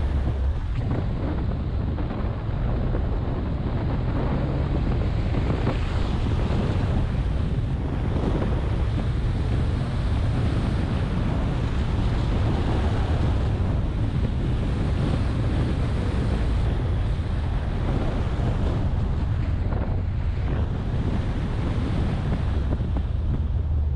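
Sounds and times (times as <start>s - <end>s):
wind rushing over microphone: 0.0s - 23.9s.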